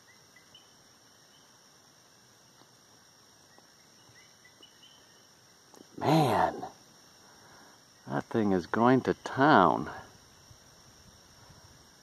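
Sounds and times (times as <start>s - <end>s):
faint background hiss: 0.0s - 12.0s
frogs chirping: 0.0s - 12.0s.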